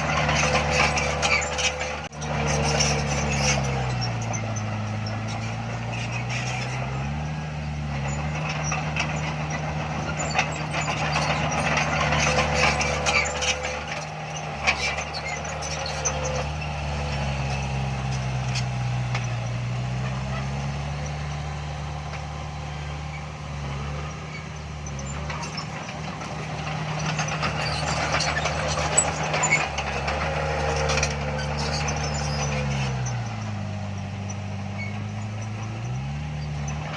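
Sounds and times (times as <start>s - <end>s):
diesel engine of earthmoving equipment: 0.0s - 36.9s.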